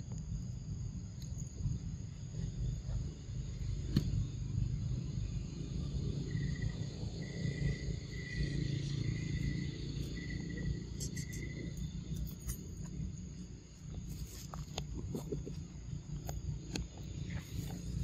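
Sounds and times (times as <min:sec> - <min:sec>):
insect trilling: 0:00.0 - 0:18.0
low outdoor rumble: 0:00.0 - 0:18.0.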